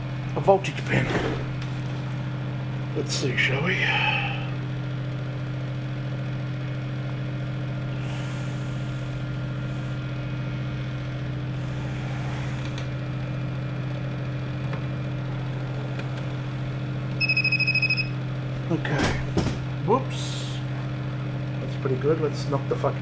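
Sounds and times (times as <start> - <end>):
transformer mains hum: 0.0 - 23.0.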